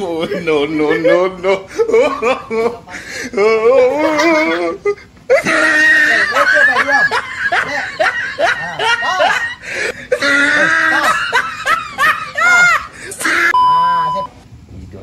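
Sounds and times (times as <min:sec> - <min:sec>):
person laughing: 0:00.0 - 0:13.6.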